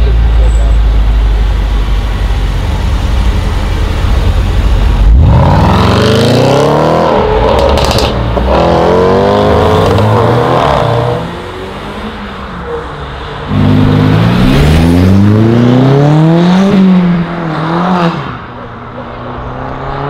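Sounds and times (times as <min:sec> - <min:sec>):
car engine accelerating: 0:00.0 - 0:12.4, 0:13.4 - 0:20.0.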